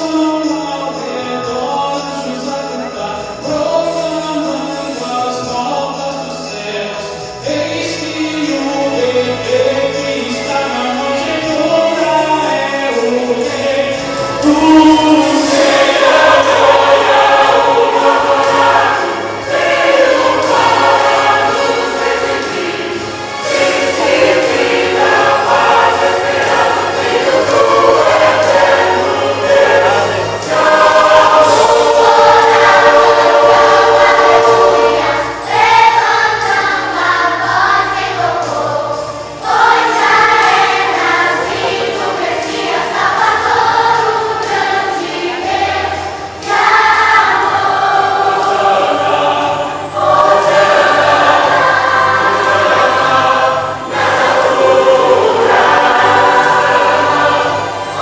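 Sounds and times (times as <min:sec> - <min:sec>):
church choir singing: 0:00.0 - 0:58.0
instrumental accompaniment: 0:00.0 - 0:58.0.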